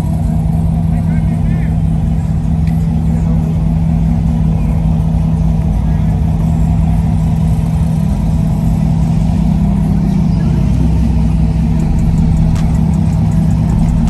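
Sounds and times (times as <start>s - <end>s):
road noise: 0.0s - 14.0s
truck engine droning: 0.0s - 14.0s.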